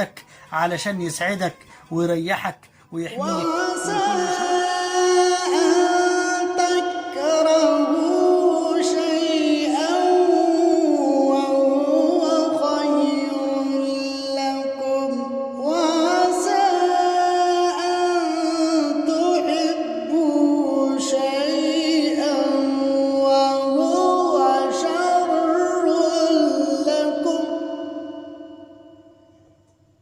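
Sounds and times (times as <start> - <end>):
layered voices singing: 3.0 - 28.9.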